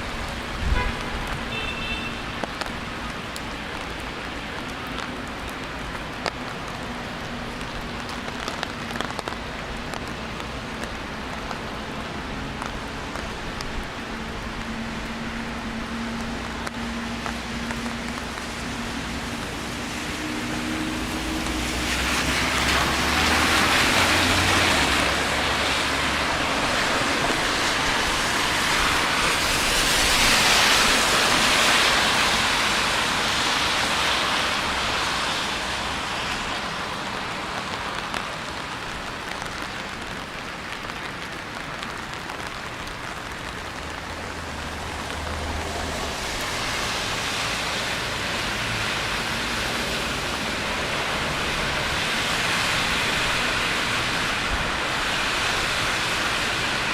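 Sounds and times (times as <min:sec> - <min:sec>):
rain hissing on street: 0:00.0 - 0:56.9
vehicles swishing on wet road: 0:00.0 - 0:56.9.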